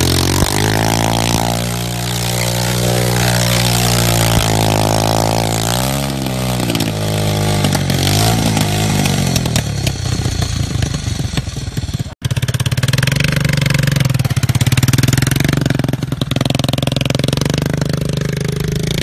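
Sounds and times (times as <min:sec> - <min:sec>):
small engine running: 0:00.0 - 0:15.9.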